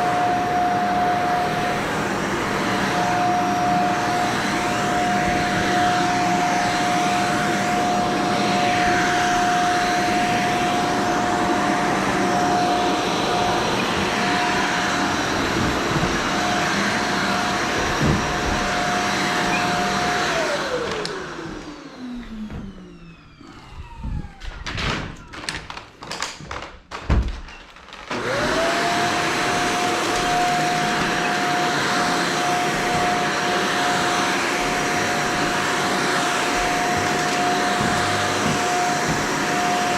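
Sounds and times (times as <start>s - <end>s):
vacuum cleaner motor whine: 0.0s - 25.9s, 27.8s - 39.9s.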